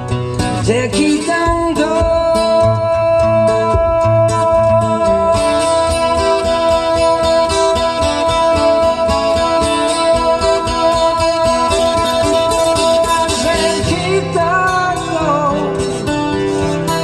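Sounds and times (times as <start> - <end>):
acoustic guitar solo: 0.0 - 17.0.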